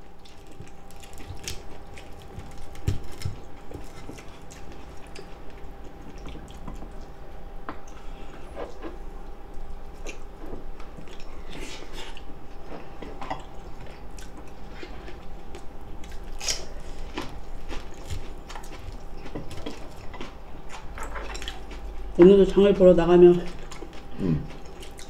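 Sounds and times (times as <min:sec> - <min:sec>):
chewing with wet mouth noises: 0:00.0 - 0:25.0.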